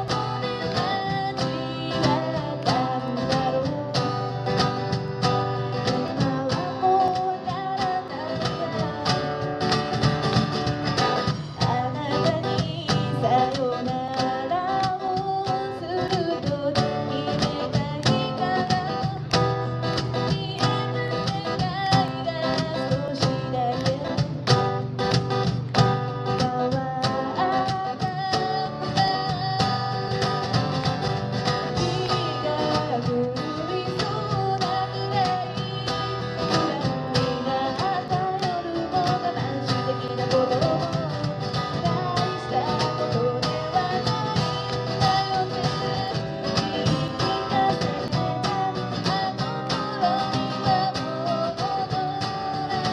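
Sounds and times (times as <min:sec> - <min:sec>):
person singing: 0:00.0 - 0:04.8, 0:05.5 - 0:09.8, 0:11.1 - 0:24.8, 0:26.3 - 0:52.9
guitar accompaniment: 0:00.0 - 0:52.9.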